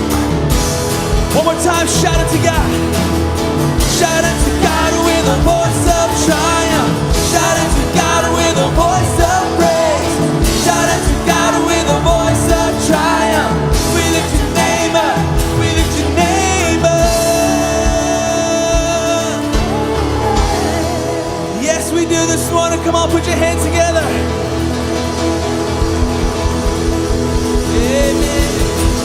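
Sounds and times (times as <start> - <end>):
bass: 0.0 - 29.0
drums: 0.0 - 29.0
guitars: 0.0 - 29.0
piano: 0.0 - 29.0
voices singing: 1.3 - 29.0.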